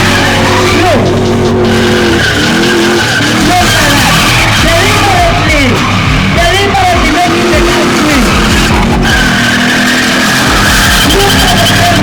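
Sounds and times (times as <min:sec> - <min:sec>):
car engine revving: 0:00.0 - 0:12.0
tyres screeching: 0:00.0 - 0:12.0.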